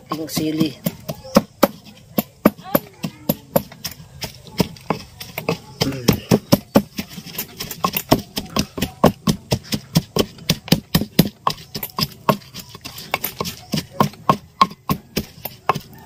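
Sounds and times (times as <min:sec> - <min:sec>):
pestle pounding in wooden mortar: 0:00.0 - 0:16.0.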